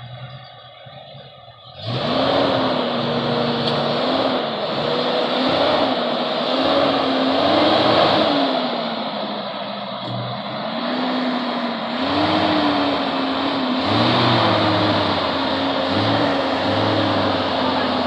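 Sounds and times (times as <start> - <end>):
car engine revving under load: 0.0 - 18.0.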